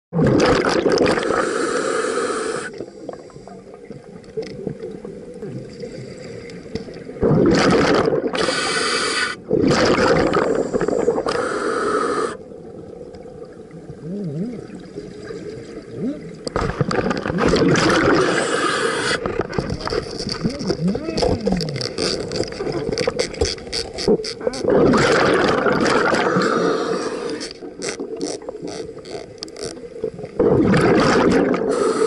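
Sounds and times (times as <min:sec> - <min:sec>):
diver exhaling bubbles underwater: 0:00.2 - 0:03.5, 0:07.1 - 0:12.6, 0:13.8 - 0:29.1, 0:30.0 - 0:32.0.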